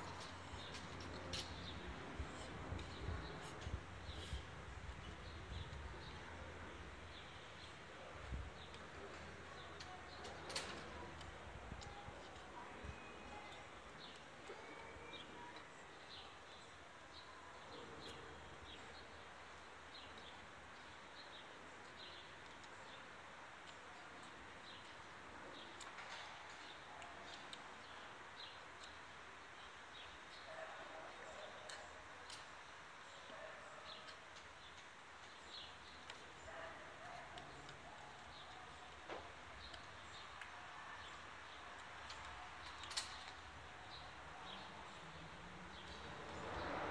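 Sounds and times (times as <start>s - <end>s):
small birds chirping: 0.0s - 46.8s.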